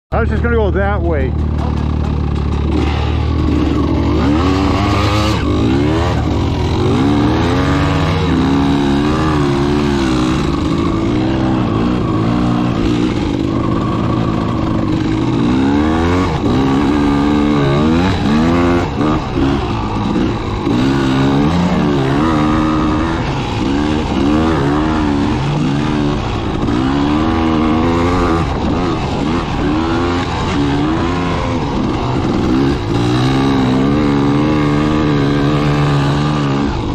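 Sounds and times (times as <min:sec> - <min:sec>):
dirt bike engine revving: 0:00.1 - 0:36.9.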